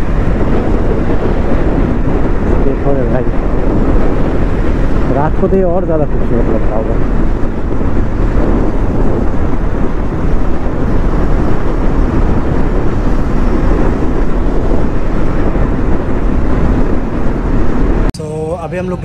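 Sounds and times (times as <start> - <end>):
motorcycle engine at speed: 0.0 - 18.1
road noise: 0.0 - 19.0
wind rushing over microphone: 0.0 - 19.0.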